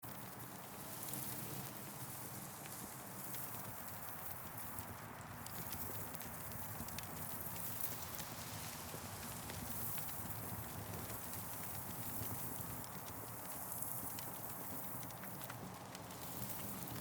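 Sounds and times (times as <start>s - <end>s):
campfire crackling and popping: 0.2s - 17.0s.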